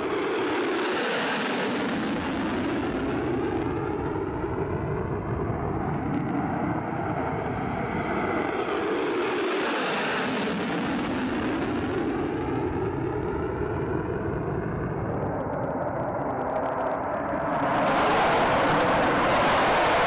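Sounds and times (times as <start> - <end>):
jet engine rushing flyby: 0.0 - 3.2, 3.9 - 20.0.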